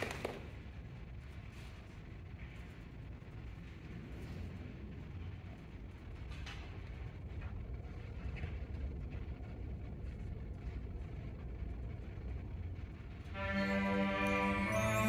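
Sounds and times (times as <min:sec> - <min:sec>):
faint clicks and rustles: 0:00.0 - 0:13.3
low steady rumble: 0:00.4 - 0:15.0.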